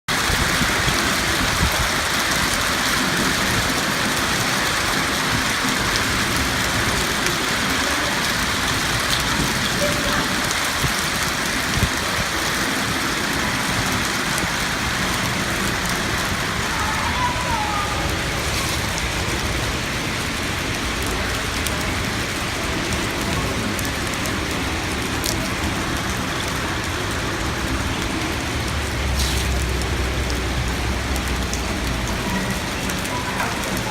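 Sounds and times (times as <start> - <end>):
hail and heavy rain pelting: 0.1 - 33.9.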